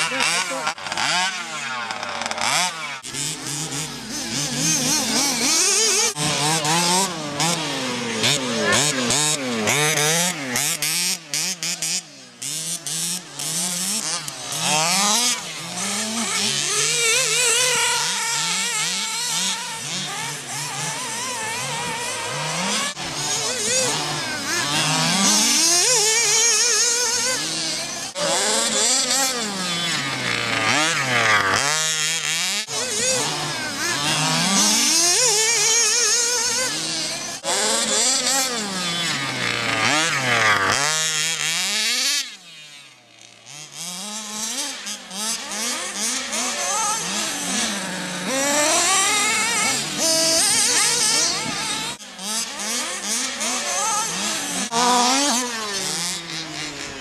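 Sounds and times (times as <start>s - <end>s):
rc car motors whining: 0.0s - 57.0s.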